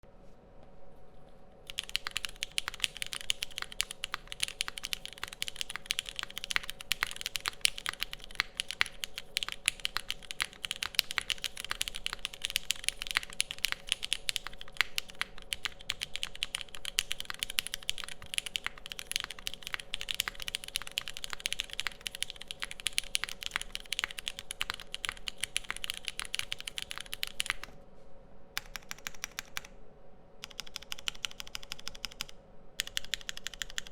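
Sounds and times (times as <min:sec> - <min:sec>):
fast typing on mechanical keyboard: 0:01.7 - 0:27.8, 0:28.6 - 0:29.7, 0:30.4 - 0:33.9.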